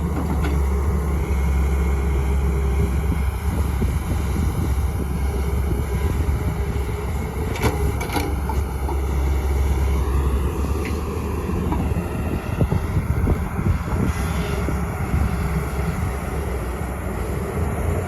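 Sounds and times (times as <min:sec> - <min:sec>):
diesel engines rumbling: 0:00.0 - 0:18.0.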